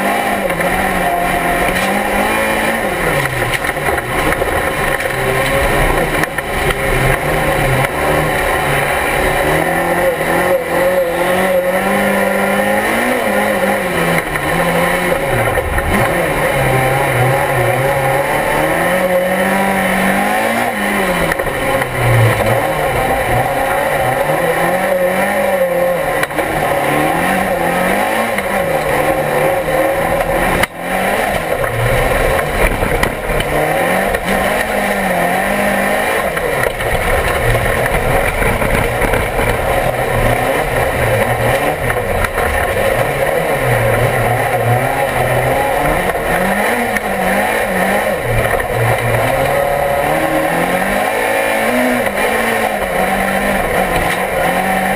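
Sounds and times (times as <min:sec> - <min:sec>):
race car engine revving: 0:00.0 - 0:54.9
road and tyre noise: 0:00.0 - 0:54.9.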